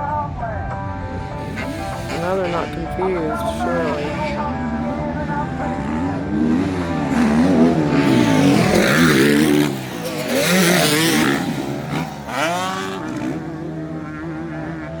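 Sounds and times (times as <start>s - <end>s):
dirt bikes revving: 0.8s - 15.0s.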